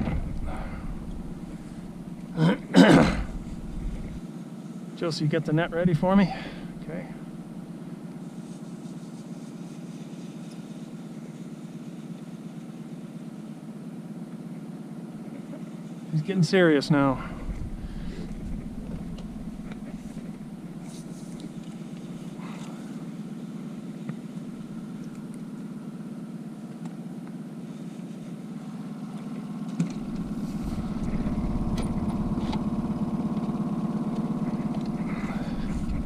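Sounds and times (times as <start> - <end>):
outboard motor drone: 0.0 - 36.0.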